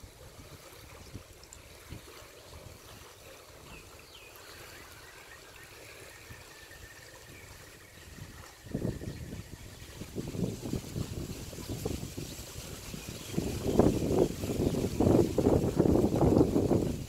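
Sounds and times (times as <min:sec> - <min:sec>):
wind buffeting microphone: 0:00.0 - 0:04.2, 0:06.2 - 0:17.0
water lapping on rocky shore: 0:00.0 - 0:17.0.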